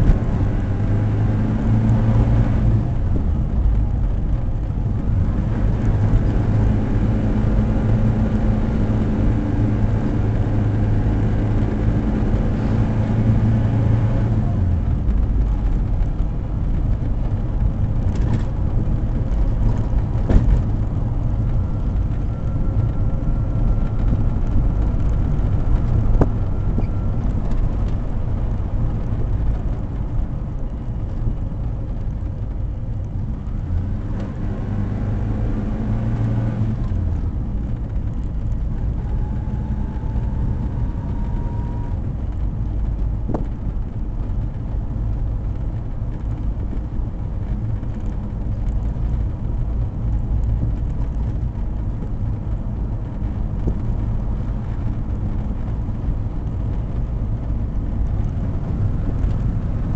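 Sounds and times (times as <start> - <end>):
car engine running: 0.0 - 59.9
tyre and wind noise: 0.0 - 59.9.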